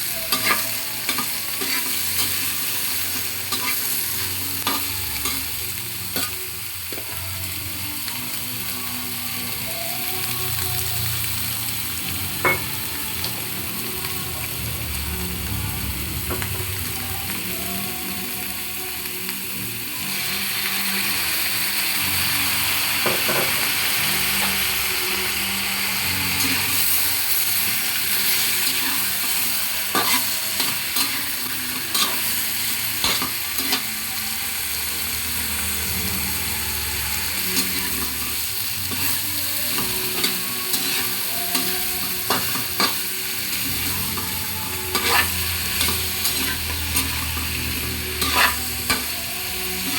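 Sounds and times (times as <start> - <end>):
food sizzling in a pan: 0.0 - 49.9.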